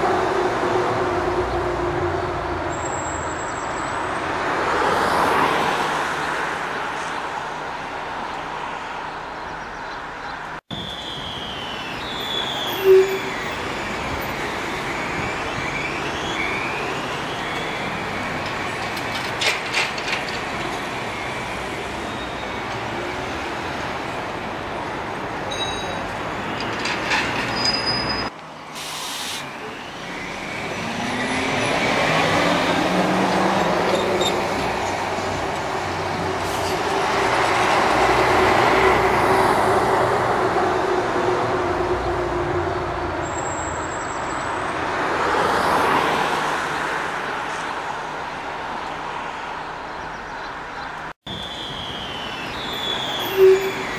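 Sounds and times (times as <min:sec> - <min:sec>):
road noise: 0:00.0 - 0:53.9.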